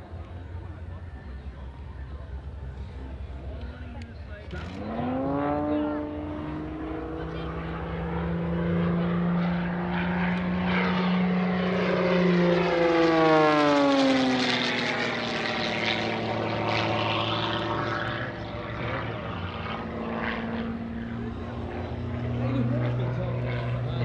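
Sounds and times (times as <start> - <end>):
propeller plane engine passing: 0.0 - 24.0.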